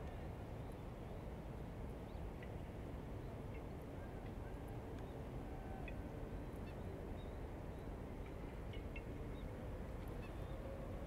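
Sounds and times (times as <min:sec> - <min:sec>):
low background wash: 0:00.0 - 0:11.0.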